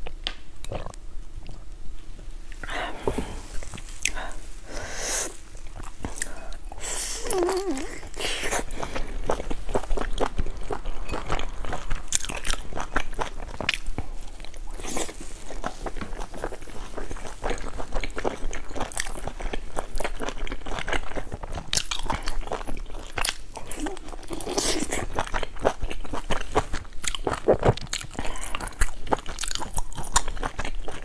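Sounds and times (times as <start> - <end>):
biting and chewing: 5.5 - 31.0.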